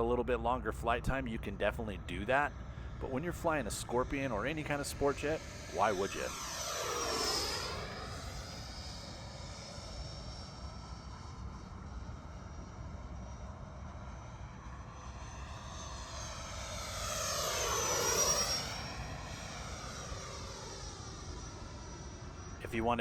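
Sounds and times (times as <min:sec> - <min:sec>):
model jet ducted fan whine: 0:00.0 - 0:23.0.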